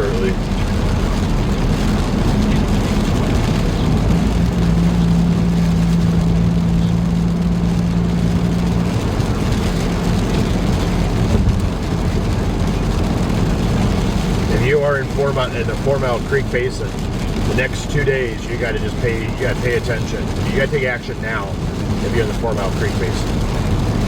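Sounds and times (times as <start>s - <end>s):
car engine and tyre noise: 0.0s - 24.0s.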